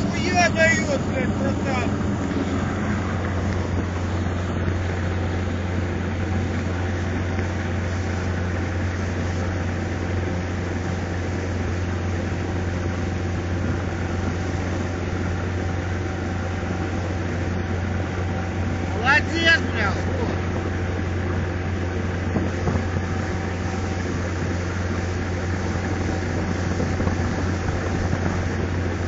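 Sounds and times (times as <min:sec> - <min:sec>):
motorboat engine droning: 0:00.0 - 0:29.0
water wash noise: 0:00.0 - 0:29.0.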